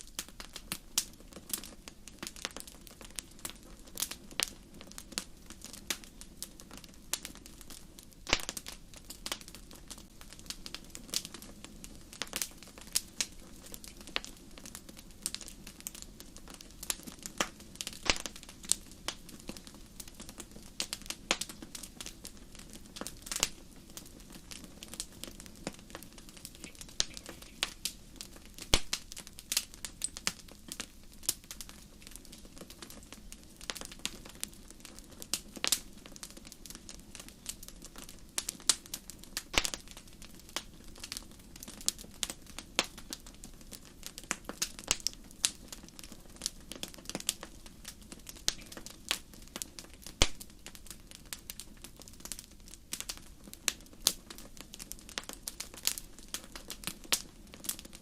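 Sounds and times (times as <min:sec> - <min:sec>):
low rumble of burning: 0:00.0 - 0:58.0
wood fire popping and snapping: 0:00.0 - 0:58.0.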